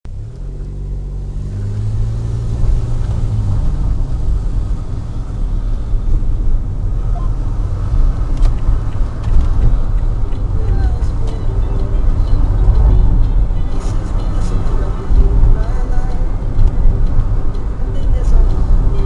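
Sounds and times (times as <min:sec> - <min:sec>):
low mechanical rumble: 0:00.1 - 0:19.0.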